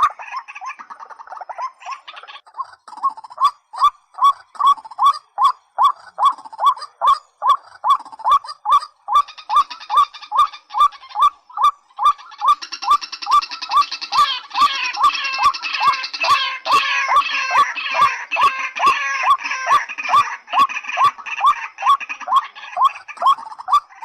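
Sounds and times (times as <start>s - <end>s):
rail bird calls: 0.0s - 24.0s.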